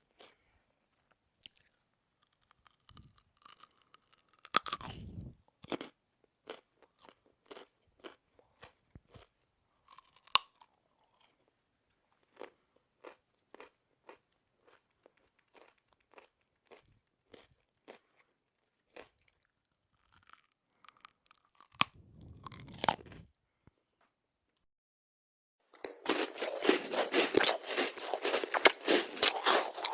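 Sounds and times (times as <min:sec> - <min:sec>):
person chewing crunchy food: 0:00.0 - 0:11.5, 0:12.1 - 0:23.3, 0:25.8 - 0:29.9.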